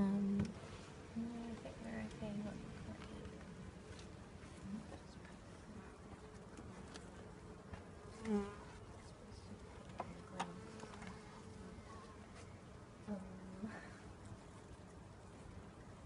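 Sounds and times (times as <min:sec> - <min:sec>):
honeybees buzzing: 0:00.0 - 0:14.2.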